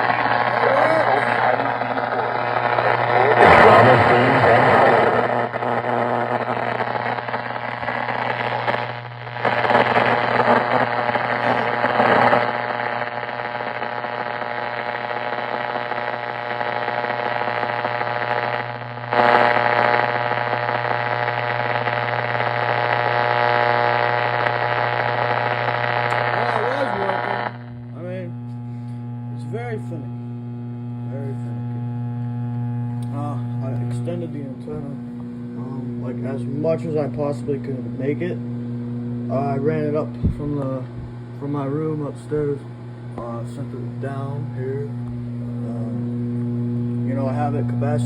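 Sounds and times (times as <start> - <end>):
faint broken broadcast sound: 0.0 - 38.5, 39.3 - 48.0
radio mains hum: 0.0 - 48.0
radio static: 0.0 - 48.0.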